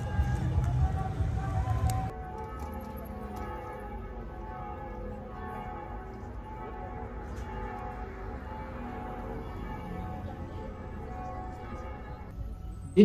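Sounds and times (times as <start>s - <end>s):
church bells ringing: 2.0s - 13.0s.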